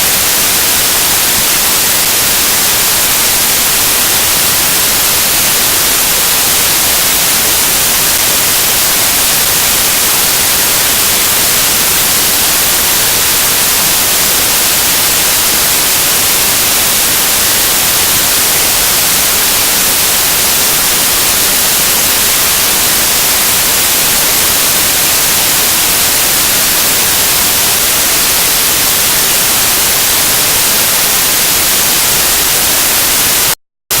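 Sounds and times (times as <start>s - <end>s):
static hiss: 0.0s - 34.0s.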